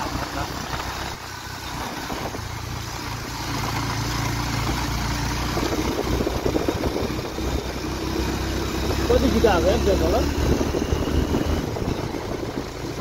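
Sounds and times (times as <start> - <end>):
wind noise: 0.0 - 9.1, 10.2 - 13.0
motorcycle engine running: 0.0 - 13.0
road noise: 0.0 - 13.0.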